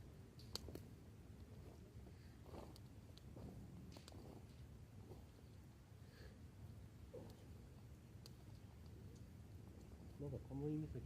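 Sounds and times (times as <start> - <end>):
campfire crackling: 0.0 - 11.0
low background hum: 0.0 - 11.0.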